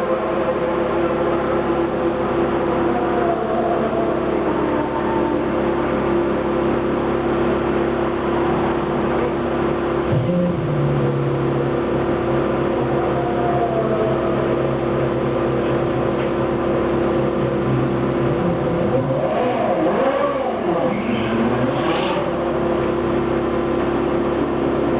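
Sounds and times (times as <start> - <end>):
race car engine idling: 0.0 - 24.9.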